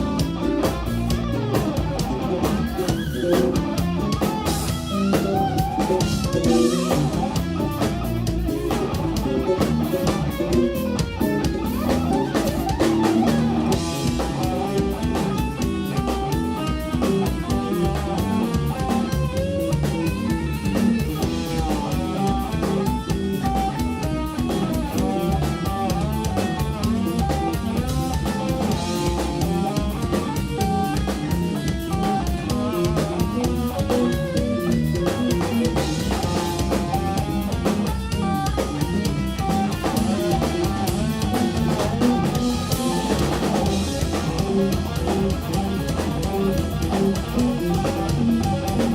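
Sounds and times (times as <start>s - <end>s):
bass guitar: 0.0s - 48.9s
drum kit: 0.0s - 48.9s
electric guitar lines: 0.0s - 48.9s.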